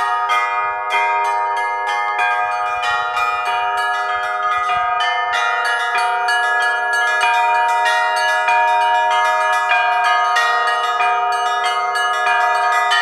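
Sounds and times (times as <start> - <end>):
large bell ringing: 0.0 - 13.0
small bells rung quickly: 0.0 - 13.0.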